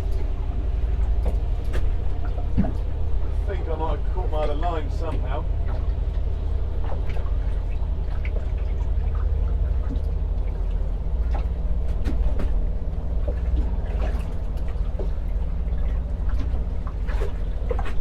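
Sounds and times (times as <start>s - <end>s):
water sloshing against boat hull: 0.0s - 18.0s.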